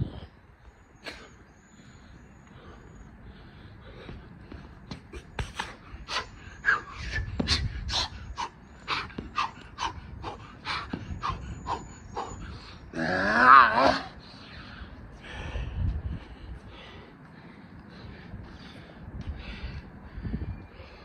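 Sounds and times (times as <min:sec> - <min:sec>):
man panting hard: 0:01.1 - 0:12.9, 0:14.1 - 0:21.0.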